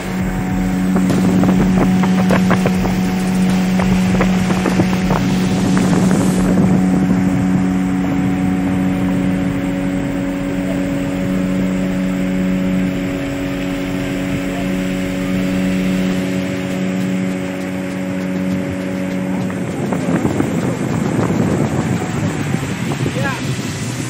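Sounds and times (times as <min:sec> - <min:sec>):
outboard motor droning: 0:00.0 - 0:24.0
wind on microphone: 0:00.0 - 0:24.0.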